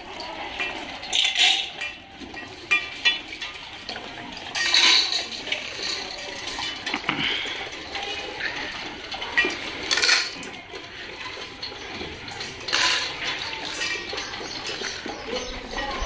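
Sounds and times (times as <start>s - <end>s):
metal bowls clattering on tiles: 0.0s - 16.0s.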